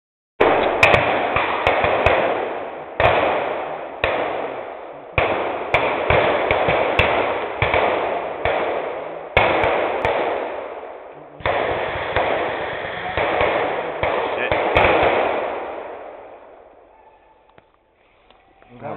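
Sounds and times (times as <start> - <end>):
blank gunshots echoing: 0.4 - 16.9.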